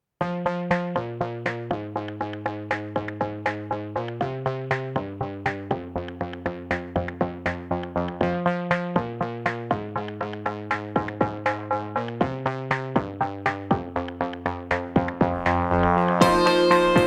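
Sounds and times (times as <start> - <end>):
synthesizer chords: 0.2 - 17.0
quick drum-machine beat: 0.7 - 17.0.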